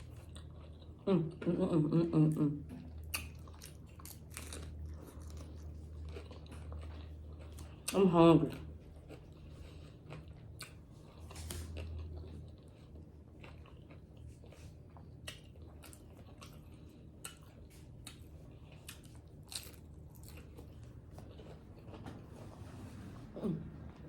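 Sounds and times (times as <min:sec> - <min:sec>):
person chewing food: 0:00.0 - 0:01.5, 0:02.6 - 0:24.0.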